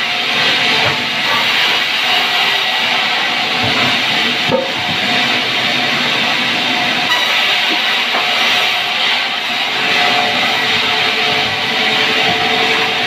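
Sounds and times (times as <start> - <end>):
band saw cutting through log: 0.0 - 13.0.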